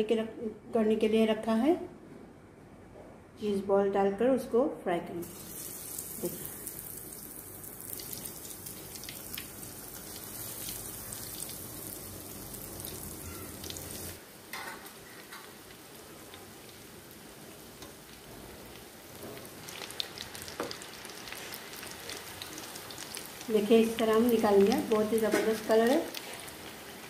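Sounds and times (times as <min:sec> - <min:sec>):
oil sizzling in a pan: 0:05.2 - 0:27.0.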